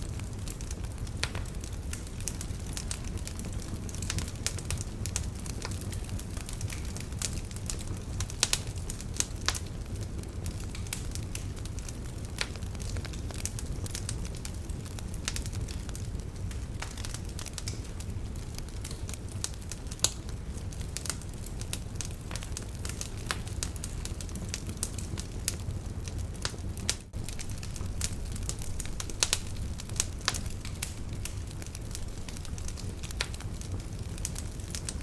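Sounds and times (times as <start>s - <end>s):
burning logs crackling and popping: 0.0s - 35.0s
fire flames rumbling: 0.0s - 35.0s.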